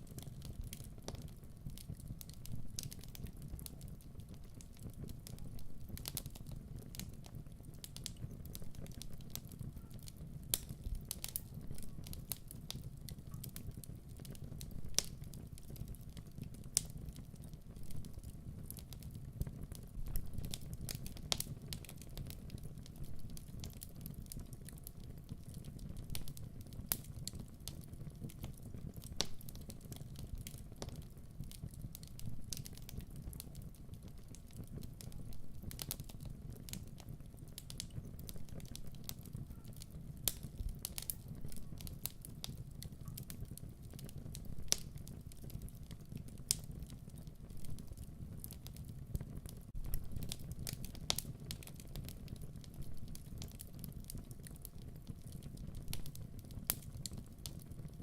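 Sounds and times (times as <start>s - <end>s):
fire crackling and popping: 0.0s - 58.0s
low steady fire rumble: 0.0s - 58.0s.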